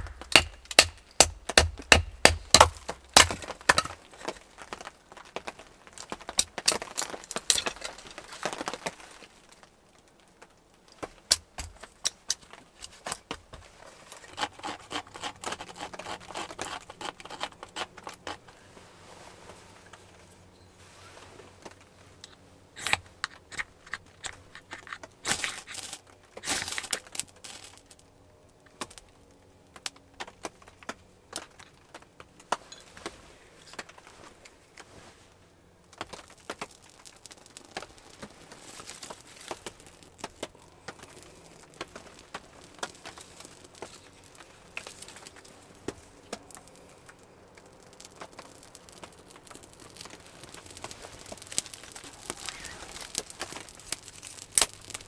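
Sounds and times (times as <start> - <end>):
dry bark crinkling and tearing: 0.0 - 18.7, 21.5 - 55.0.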